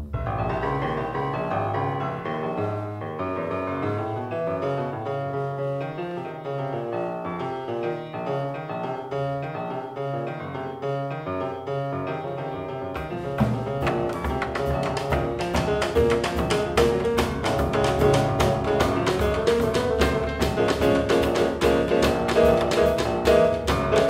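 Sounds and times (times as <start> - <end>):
jazz piano: 0.0 - 24.0.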